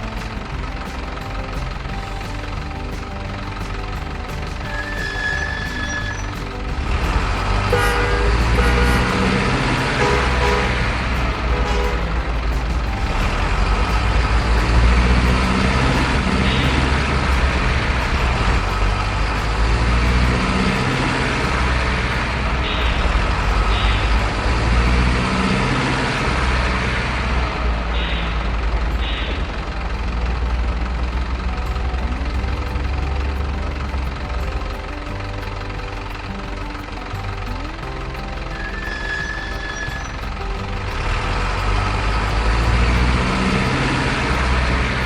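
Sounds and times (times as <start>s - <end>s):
model truck engine drone: 0.0s - 45.0s.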